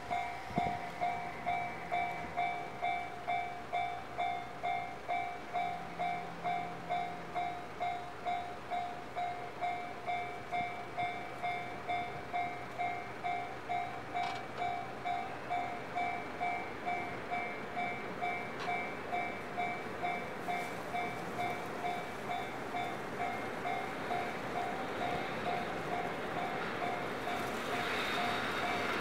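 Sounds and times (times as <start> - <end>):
level crossing warning bell clanging: 0.0 - 29.0.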